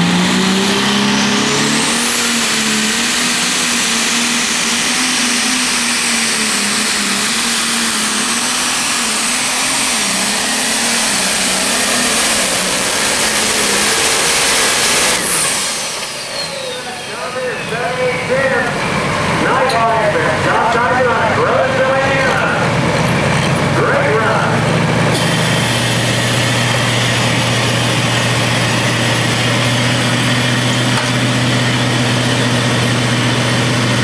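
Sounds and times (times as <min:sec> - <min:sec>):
diesel engine running under load: 0:00.0 - 0:34.0
high turbo whine: 0:00.0 - 0:34.0.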